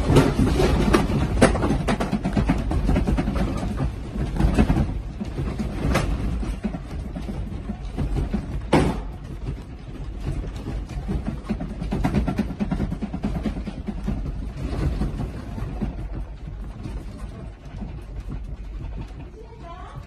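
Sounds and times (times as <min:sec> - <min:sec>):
building rattling: 0:00.0 - 0:20.0
earthquake low rumble: 0:00.0 - 0:20.0.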